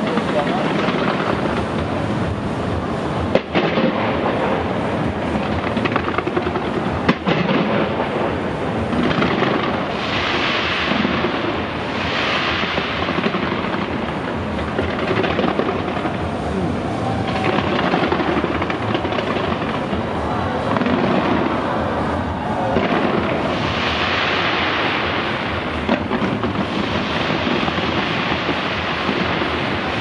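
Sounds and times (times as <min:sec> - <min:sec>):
fireworks bangs and crackling: 0:00.0 - 0:30.0
fireworks hissing: 0:00.0 - 0:30.0.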